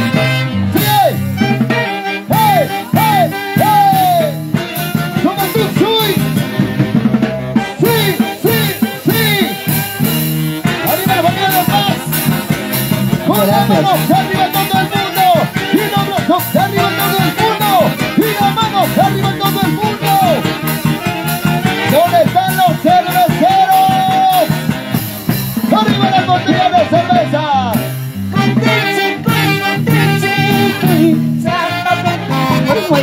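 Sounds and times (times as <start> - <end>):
drum kit steady beat: 0.0 - 33.0
saxophones and clarinets melody: 0.0 - 33.0
trumpets: 0.0 - 33.0.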